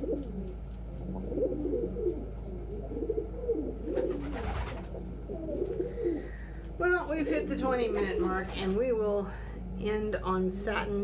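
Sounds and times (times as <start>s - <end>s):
pigeons cooing: 0.0s - 10.5s.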